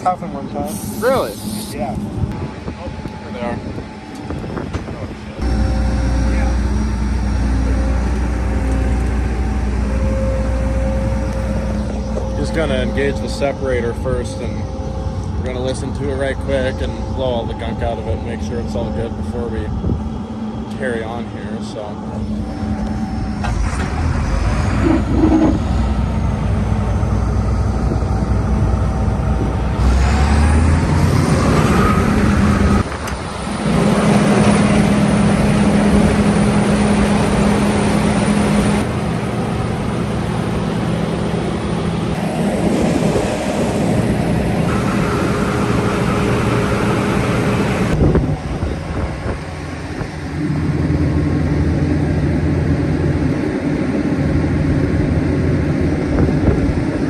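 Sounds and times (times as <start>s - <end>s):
combine harvester machine drone: 0.0s - 57.0s.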